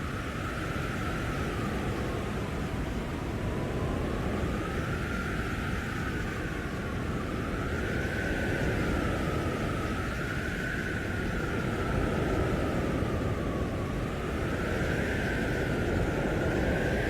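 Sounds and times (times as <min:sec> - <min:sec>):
storm wind howling: 0:00.0 - 0:17.0.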